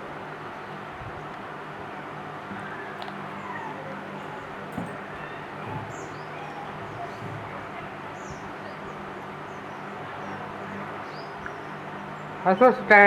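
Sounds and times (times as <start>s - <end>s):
songbird chirping: 2.5s - 13.0s.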